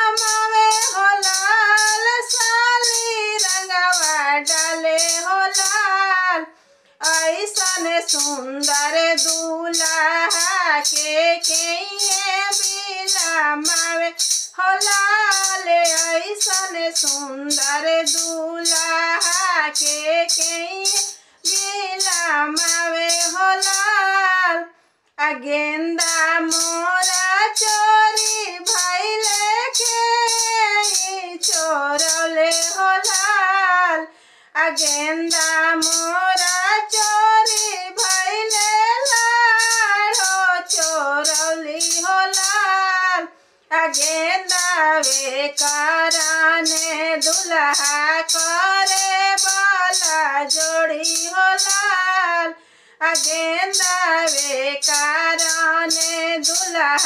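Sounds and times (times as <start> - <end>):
rattling percussion beat: 0.0 - 6.0, 7.0 - 24.2, 26.0 - 33.6, 34.6 - 42.8, 43.8 - 52.2, 53.0 - 57.0
woman singing folk song: 0.0 - 57.0.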